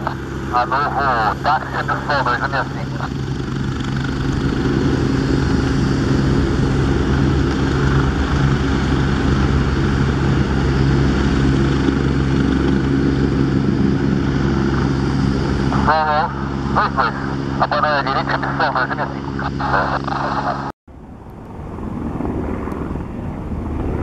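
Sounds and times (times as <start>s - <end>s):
helicopter rotor and turbine drone: 0.0s - 24.0s.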